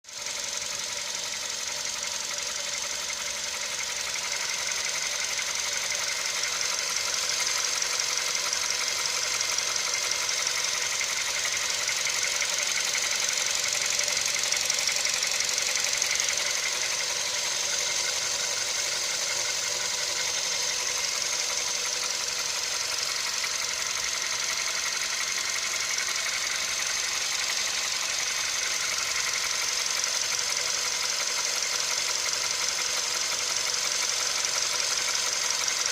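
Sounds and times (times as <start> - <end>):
car engine idling: 0.0 - 35.9
repetitive engine knock: 0.1 - 35.9.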